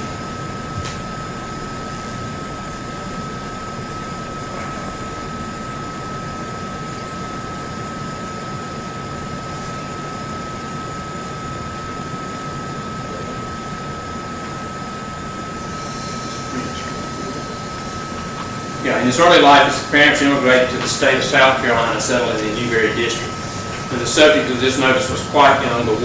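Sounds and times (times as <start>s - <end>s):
high-pitched whine: 0.0s - 26.0s.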